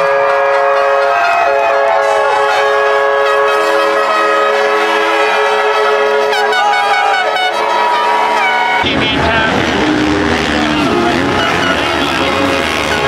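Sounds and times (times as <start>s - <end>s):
motocross bike engines whining: 0.0s - 13.0s.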